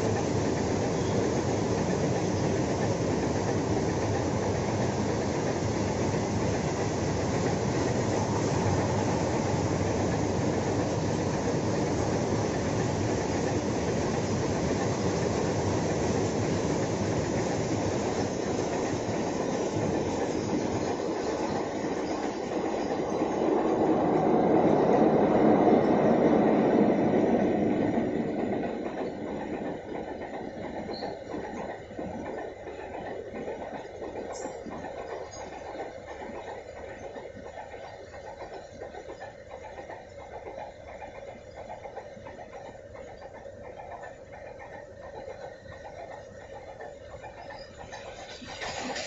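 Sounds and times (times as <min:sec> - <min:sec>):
freight train wheels rumbling: 0:00.0 - 0:49.0
passing locomotive: 0:00.0 - 0:49.0.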